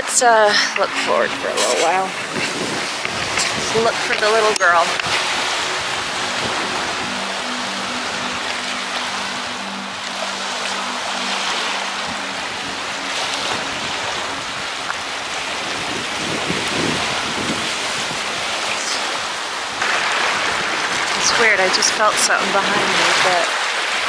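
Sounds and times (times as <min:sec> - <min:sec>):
wind on microphone: 0:00.0 - 0:21.7
waves washing on shore: 0:00.0 - 0:24.0.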